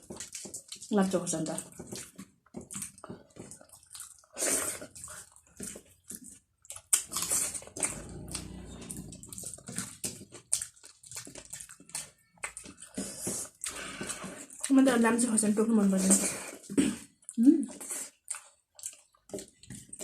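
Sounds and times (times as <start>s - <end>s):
person chewing with mouth smacks: 0.0s - 15.2s, 16.0s - 20.0s.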